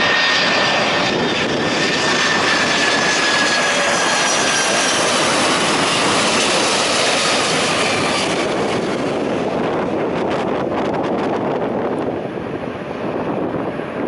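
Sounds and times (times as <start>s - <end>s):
jet airliner engines rushing: 0.0s - 14.0s.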